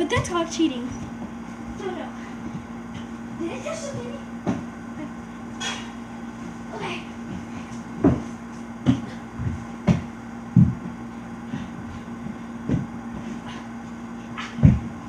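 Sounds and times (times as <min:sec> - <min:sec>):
dull thumps on furniture: 0:00.0 - 0:05.8, 0:06.4 - 0:15.0
steady low hum: 0:00.0 - 0:15.0.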